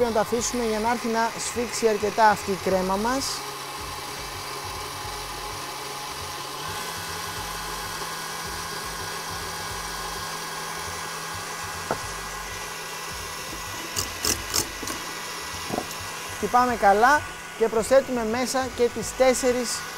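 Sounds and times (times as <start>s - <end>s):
stand mixer whisking: 0.0s - 11.5s, 12.1s - 19.9s.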